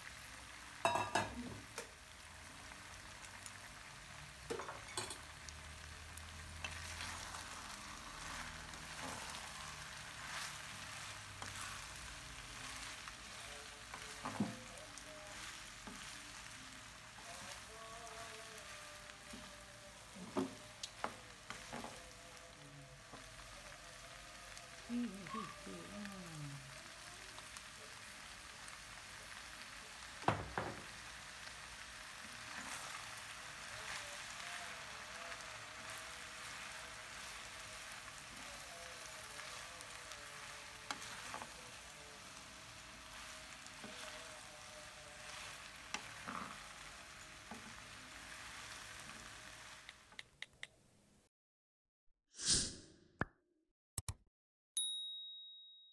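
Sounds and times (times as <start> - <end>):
food sizzling in a frying pan: 0.0 - 50.2.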